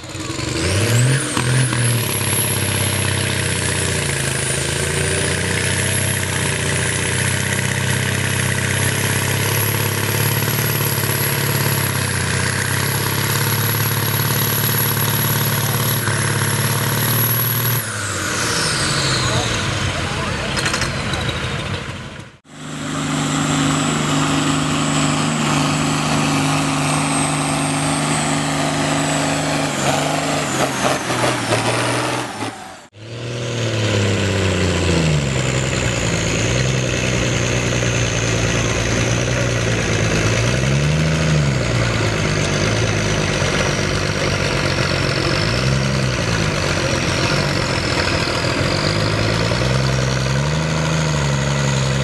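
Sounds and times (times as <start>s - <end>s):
tractor engine running hard: 0.0s - 52.0s.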